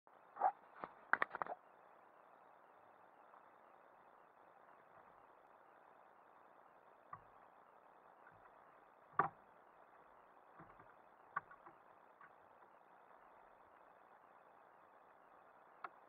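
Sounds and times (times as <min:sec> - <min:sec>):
faint steady hiss: 0:00.1 - 0:16.0.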